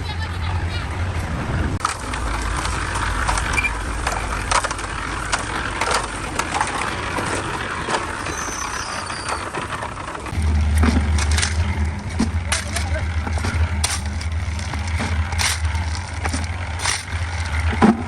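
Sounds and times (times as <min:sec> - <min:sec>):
steady low rumble: 0:00.0 - 0:08.4, 0:10.0 - 0:18.0.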